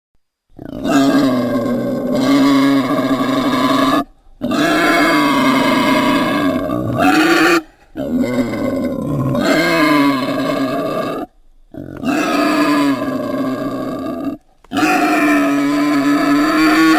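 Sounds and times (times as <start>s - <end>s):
wild boar calling: 0.6s - 16.9s.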